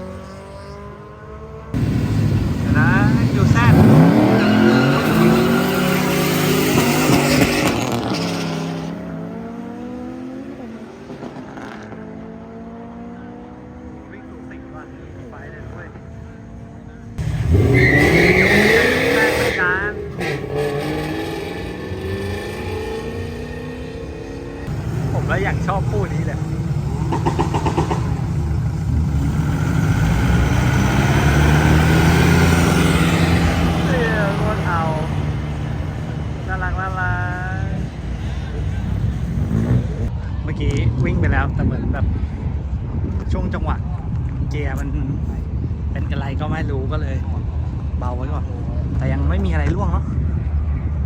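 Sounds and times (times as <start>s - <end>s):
car engine at full throttle: 0.0s - 51.0s.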